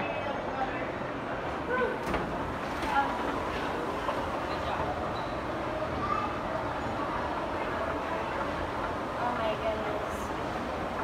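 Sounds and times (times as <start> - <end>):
busy walkway din: 0.0 - 11.0
distant voices: 0.0 - 11.0.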